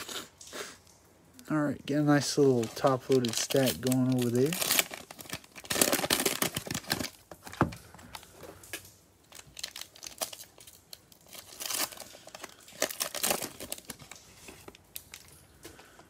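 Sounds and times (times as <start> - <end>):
plastic wrapper crinkling and tearing: 1.4 - 16.0.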